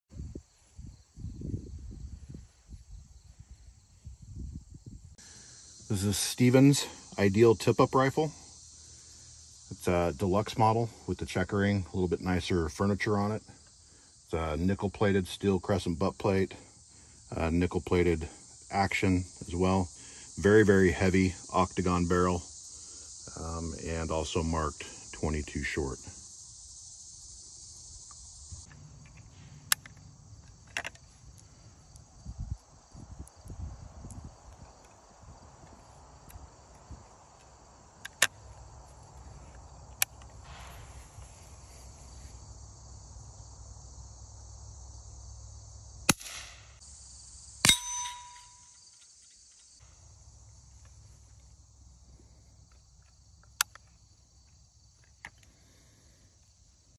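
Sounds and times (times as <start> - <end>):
insects droning: 0.1 - 56.9.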